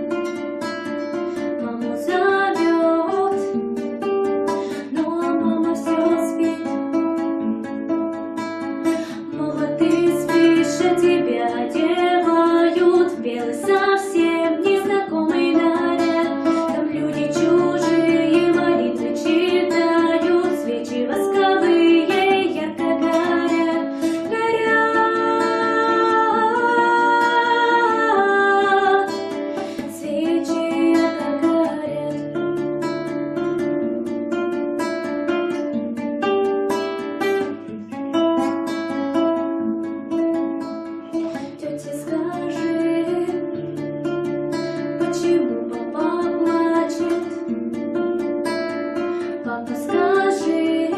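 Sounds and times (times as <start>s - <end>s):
acoustic guitar music: 0.0s - 50.9s.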